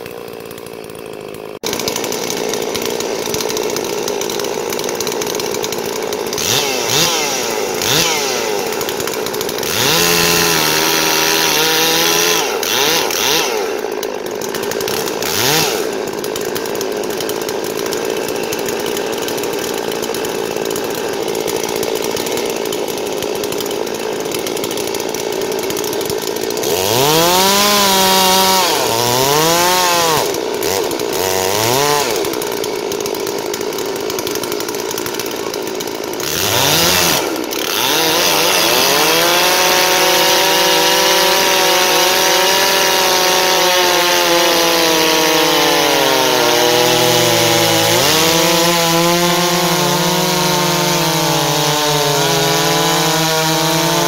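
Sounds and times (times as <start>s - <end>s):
chainsaws cutting wood: 0.0s - 54.0s.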